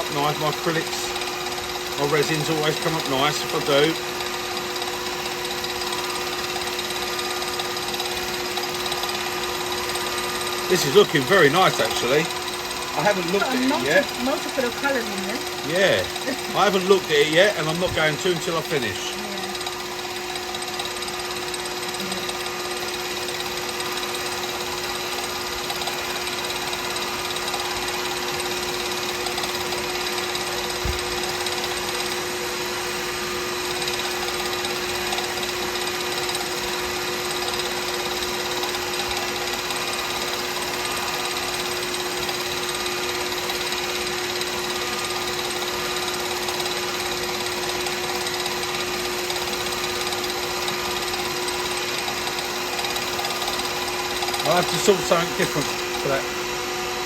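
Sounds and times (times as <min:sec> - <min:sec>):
wood lathe motor hum and whine: 0:00.0 - 0:57.0.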